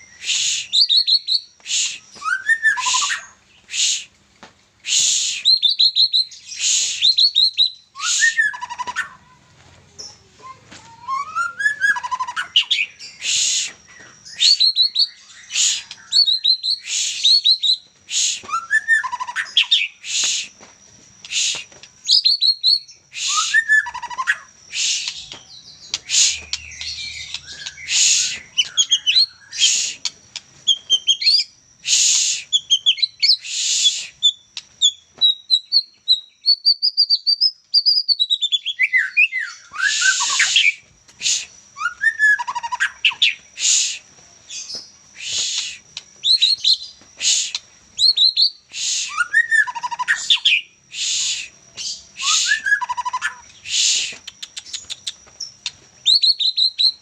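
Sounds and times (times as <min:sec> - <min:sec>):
bird singing whistles and chirps: 0:00.0 - 0:04.1, 0:04.9 - 0:09.2, 0:10.1 - 0:20.6, 0:21.2 - 0:57.0.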